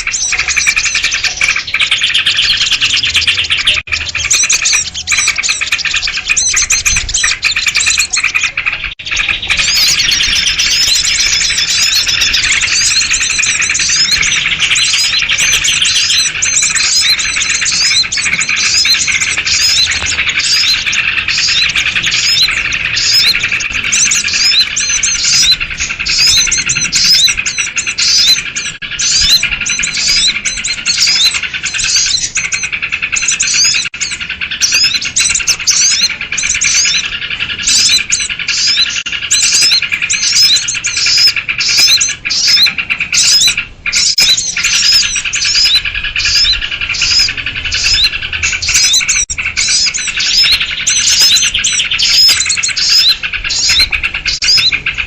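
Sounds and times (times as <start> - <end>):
bulbuls chirping: 0.0 - 55.0
small birds chirping: 0.0 - 55.0.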